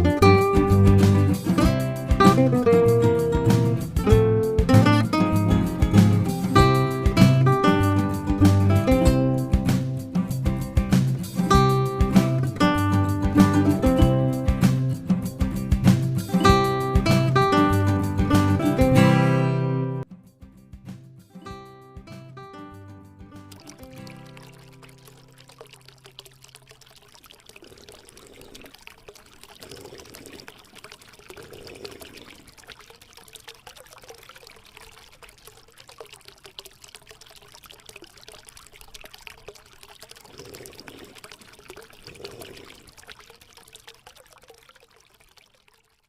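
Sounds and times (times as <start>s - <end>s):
fountain water splashing: 0.0s - 18.9s, 23.4s - 46.0s.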